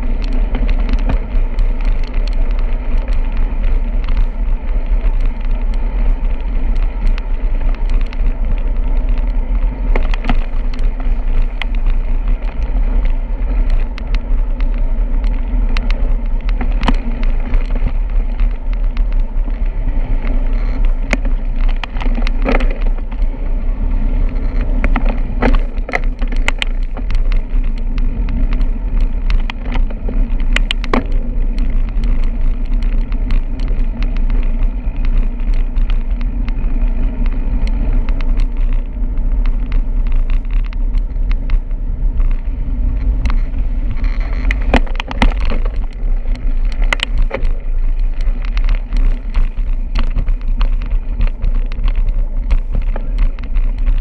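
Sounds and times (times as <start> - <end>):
bicycle clicks and rattles: 0.0 - 54.0
bicycle rolling on road: 0.0 - 54.0.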